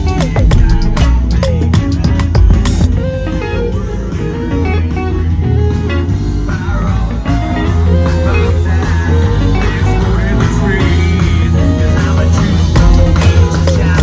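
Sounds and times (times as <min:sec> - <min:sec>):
bass: 0:00.0 - 0:14.0
electric guitar melody: 0:00.0 - 0:14.0
live blues rock band: 0:00.0 - 0:14.0.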